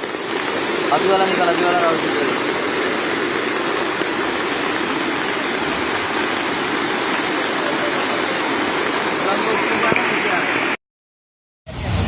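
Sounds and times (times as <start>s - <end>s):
floodwater rushing: 0.0s - 10.8s.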